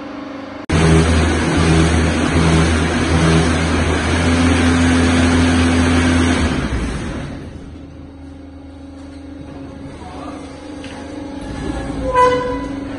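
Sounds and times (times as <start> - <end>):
machine hum and mechanical noise: 0.0 - 12.9.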